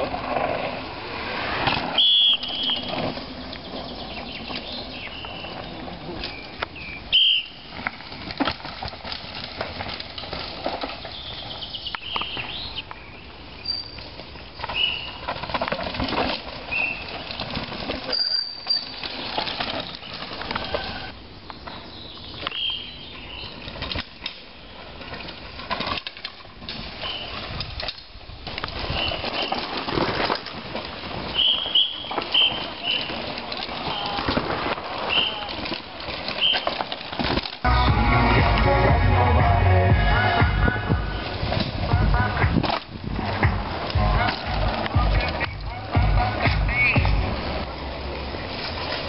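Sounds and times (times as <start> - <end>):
mountain bikes rattling over roots: 0.0 - 49.0.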